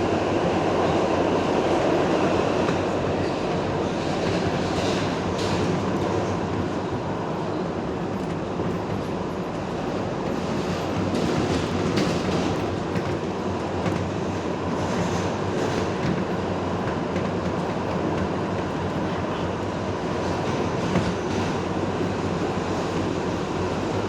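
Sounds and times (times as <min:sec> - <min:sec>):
subway car wheels rumbling: 0:00.0 - 0:24.0.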